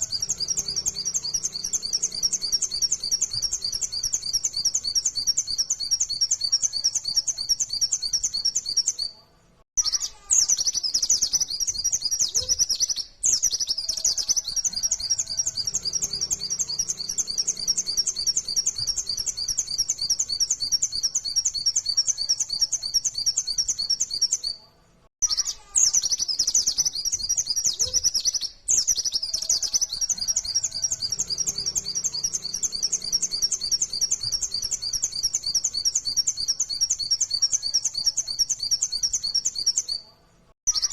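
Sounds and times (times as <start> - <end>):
bird singing rapid high chirps: 0.0 - 9.2, 9.8 - 24.6, 25.2 - 40.9.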